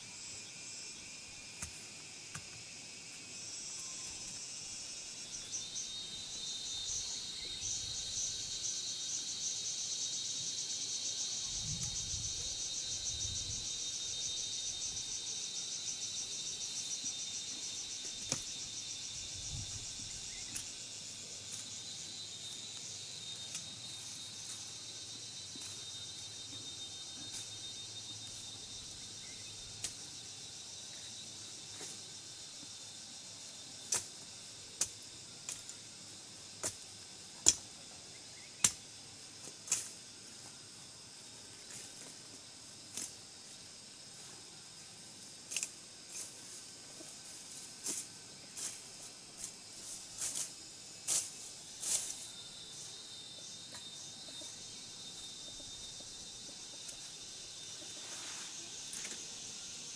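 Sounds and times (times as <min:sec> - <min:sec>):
insects humming: 0:00.0 - 0:59.9.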